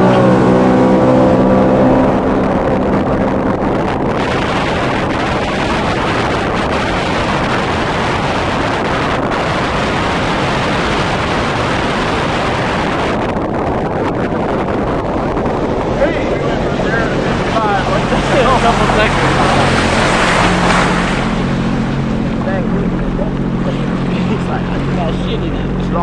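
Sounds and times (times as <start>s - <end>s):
watercraft engine: 0.0s - 26.0s
wind on microphone: 0.0s - 26.0s.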